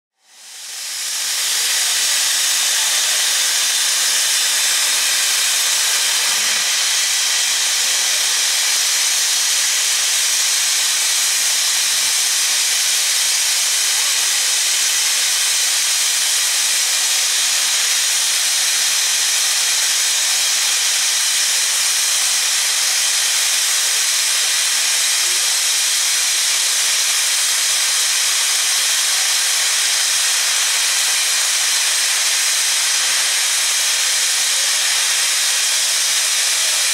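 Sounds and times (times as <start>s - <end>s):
steam hissing from locomotive: 0.2s - 36.9s.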